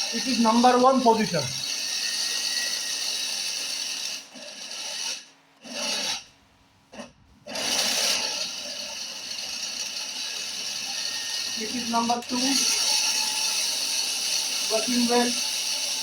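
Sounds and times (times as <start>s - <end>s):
mixer grinder milling grain: 0.0s - 6.2s, 7.5s - 16.0s.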